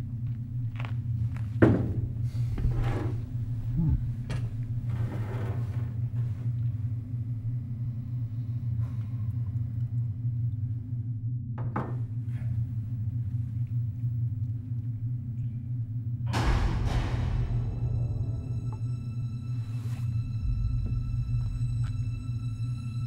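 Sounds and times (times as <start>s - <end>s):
low rumbling drone: 0.0s - 23.0s.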